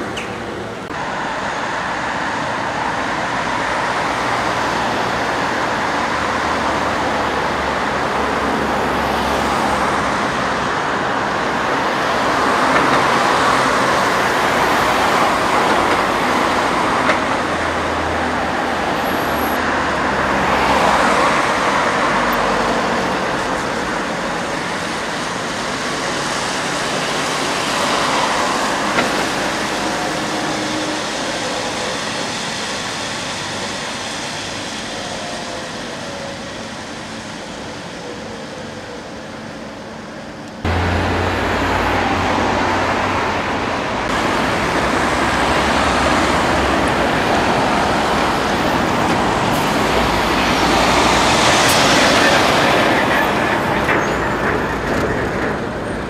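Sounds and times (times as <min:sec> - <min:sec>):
cars passing: 0:00.0 - 0:56.0
tyre and road noise: 0:00.0 - 0:56.0.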